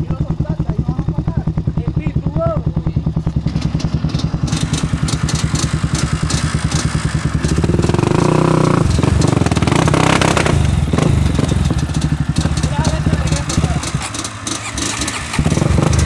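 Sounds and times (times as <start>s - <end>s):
knocks and clatter: 0.0s - 16.0s
quad engine revving: 0.0s - 16.0s.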